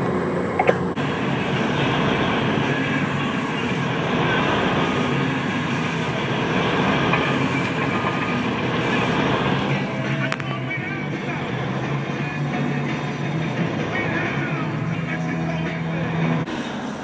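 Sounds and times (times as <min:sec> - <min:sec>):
heavy machinery droning: 0:00.0 - 0:17.0.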